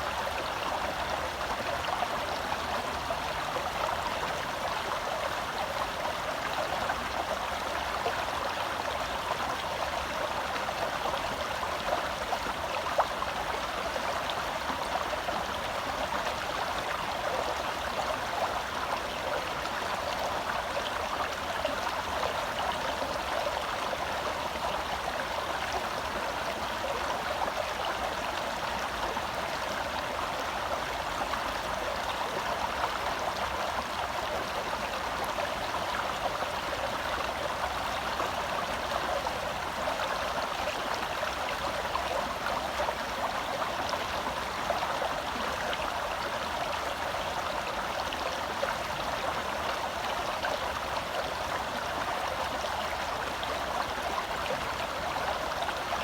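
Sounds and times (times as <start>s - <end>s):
stream burbling over rocks: 0.0s - 56.0s.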